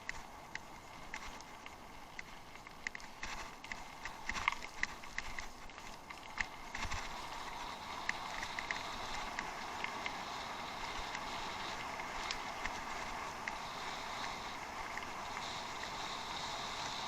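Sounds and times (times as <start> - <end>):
bicycle clicks and rattles: 0.0 - 17.0
bicycle rolling rush: 0.0 - 17.0.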